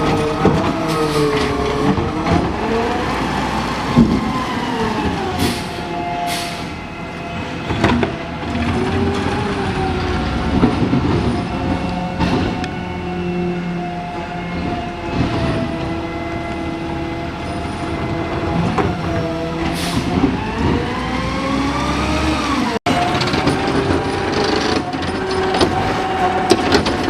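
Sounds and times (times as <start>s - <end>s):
garbage truck engine whining: 0.0s - 27.0s.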